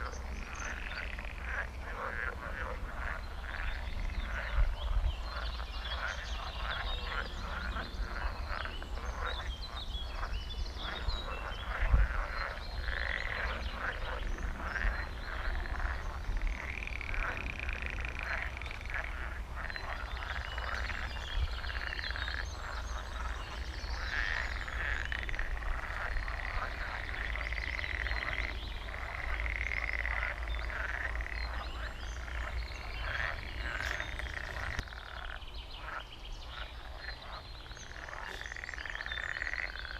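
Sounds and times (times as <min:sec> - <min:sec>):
frog trills: 0:00.0 - 0:39.9
frogs croaking: 0:00.0 - 0:39.9.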